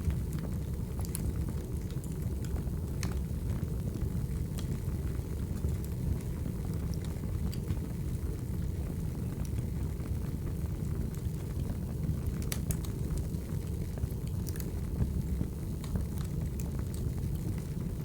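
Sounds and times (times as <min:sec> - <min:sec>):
fire crackles and pops: 0:00.0 - 0:18.0
wood fire rumble: 0:00.0 - 0:18.0.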